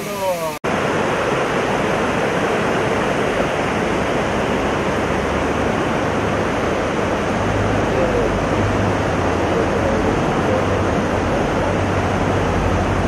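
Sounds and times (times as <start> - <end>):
stream rushing through dam: 0.0 - 13.0.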